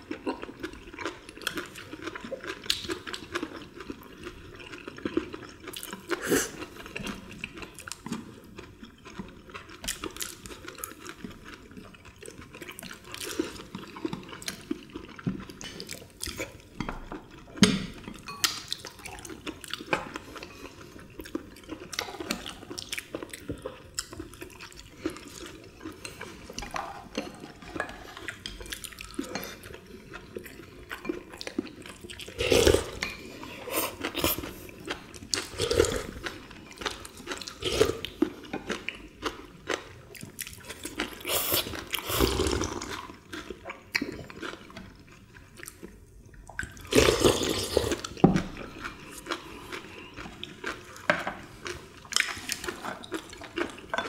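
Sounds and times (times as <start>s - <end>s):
people eating and slurping: 0.2s - 8.4s, 9.0s - 45.9s, 46.5s - 54.0s.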